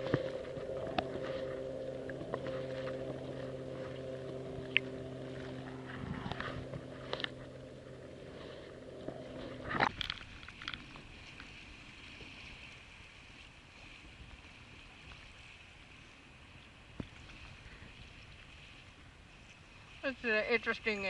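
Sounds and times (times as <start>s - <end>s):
low engine hum: 0.0s - 21.0s
water sloshing around a kayak: 0.0s - 21.0s.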